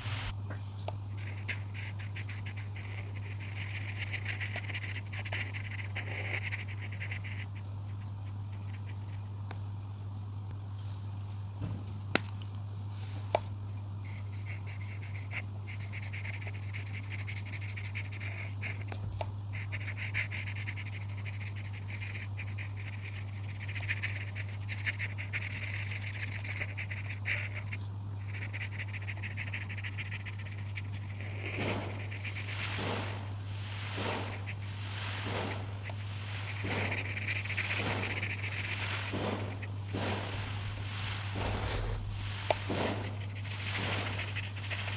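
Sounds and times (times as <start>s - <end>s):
scratching strokes on paper: 0.0s - 0.3s, 1.1s - 9.3s, 14.0s - 44.9s
steady low hum: 0.0s - 44.9s.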